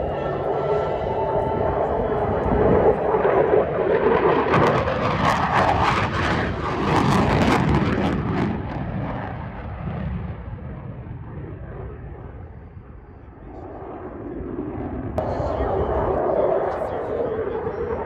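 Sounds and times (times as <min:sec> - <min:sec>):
fighter jet engines roaring: 0:00.0 - 0:18.0.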